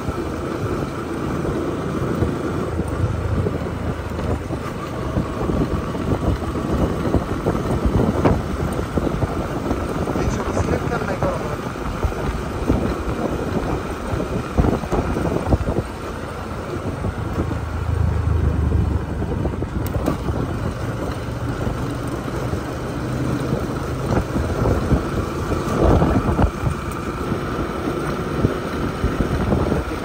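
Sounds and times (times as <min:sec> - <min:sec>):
motorcycle engine humming: 0:00.0 - 0:30.0
wind buffeting microphone: 0:00.0 - 0:30.0.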